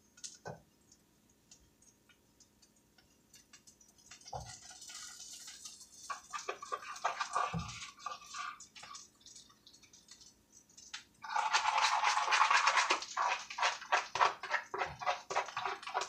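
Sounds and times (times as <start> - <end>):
utensil stirring batter in a bowl: 2.5 - 16.0.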